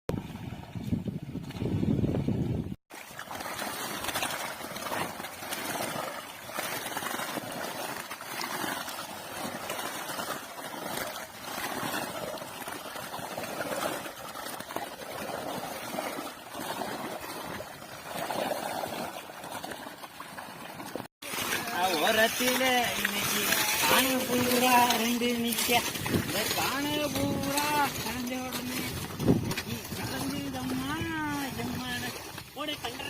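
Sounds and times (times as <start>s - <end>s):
weeder churning and splashing water: 0.1s - 33.0s.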